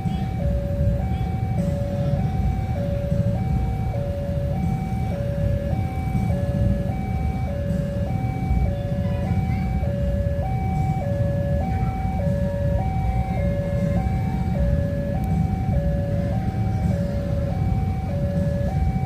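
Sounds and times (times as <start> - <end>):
constant low rumble: 0.0 - 19.0
two-tone warning siren: 0.0 - 19.0.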